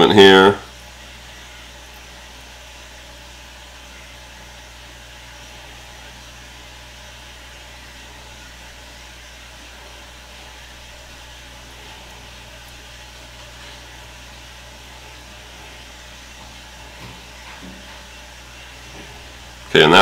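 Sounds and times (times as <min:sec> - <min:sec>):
low hum: 0:00.0 - 0:20.0
steady hiss: 0:00.0 - 0:20.0.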